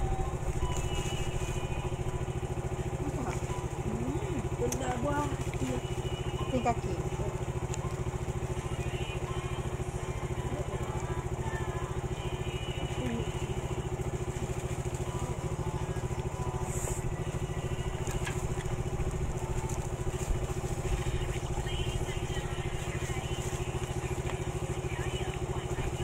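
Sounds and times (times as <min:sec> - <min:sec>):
small engine idling: 0:00.0 - 0:26.0.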